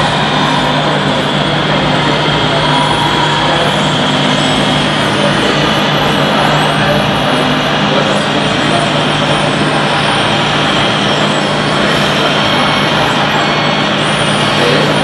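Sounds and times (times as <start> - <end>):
toy truck motor drone: 0.0 - 15.0.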